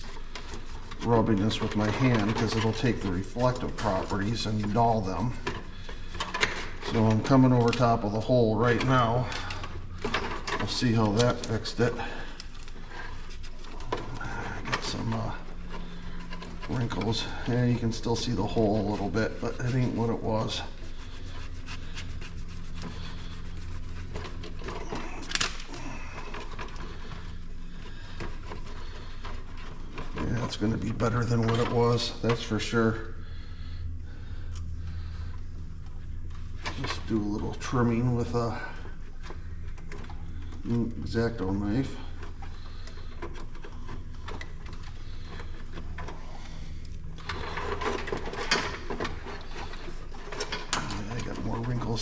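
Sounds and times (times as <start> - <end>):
handling noises: 0.0 - 52.0
low hum: 0.0 - 52.0.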